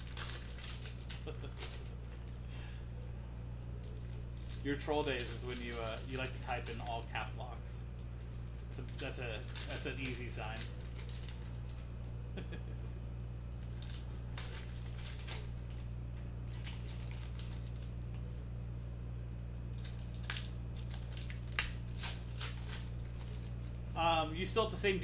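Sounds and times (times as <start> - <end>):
foil wrappers crinkling: 0.0 - 2.8, 3.5 - 18.5, 19.4 - 25.0
low electrical hum: 0.0 - 25.0.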